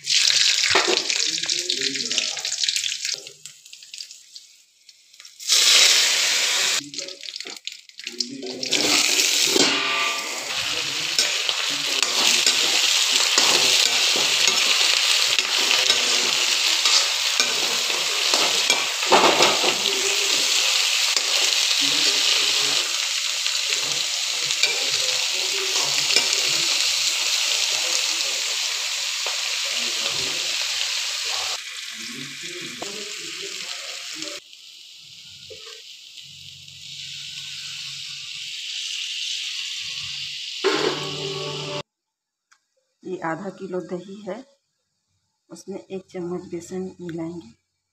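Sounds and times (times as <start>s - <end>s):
hot oil sizzling: 0.0s - 41.9s.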